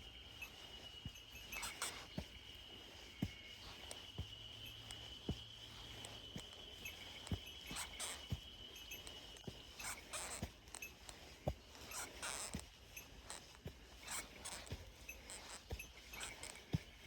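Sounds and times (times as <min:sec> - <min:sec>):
footsteps walking: 0:00.0 - 0:17.0
insect trill: 0:00.0 - 0:17.0.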